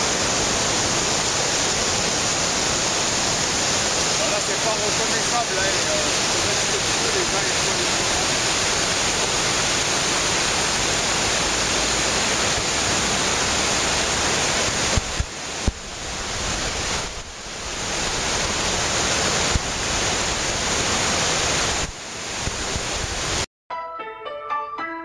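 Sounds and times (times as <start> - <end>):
mountain torrent rushing over rocks: 0.0 - 23.5.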